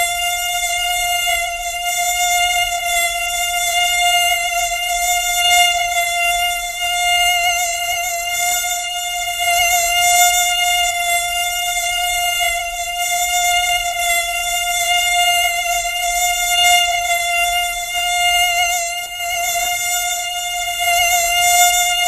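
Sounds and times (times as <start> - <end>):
mosquito whine: 0.0 - 22.0.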